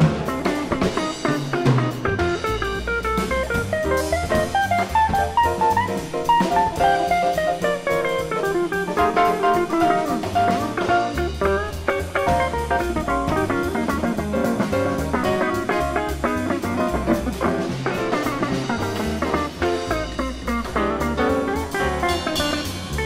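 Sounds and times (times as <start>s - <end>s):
drum kit with cymbals: 0.0s - 23.0s
jazz guitar: 0.0s - 23.0s
upright bass: 0.0s - 23.0s.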